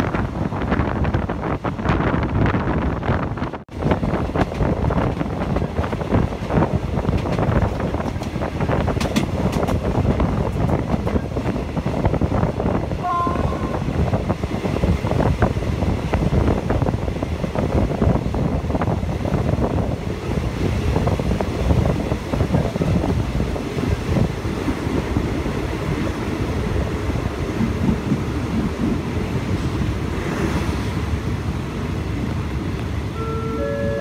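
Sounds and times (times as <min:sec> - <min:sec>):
train rumbling and clattering on rails: 0:00.0 - 0:34.0
wind buffeting microphone: 0:00.0 - 0:34.0.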